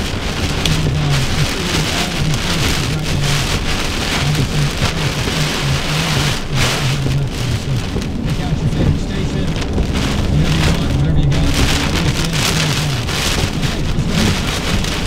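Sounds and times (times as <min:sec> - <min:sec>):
heavy rain: 0:00.0 - 0:15.0
low broken hum: 0:00.0 - 0:15.0.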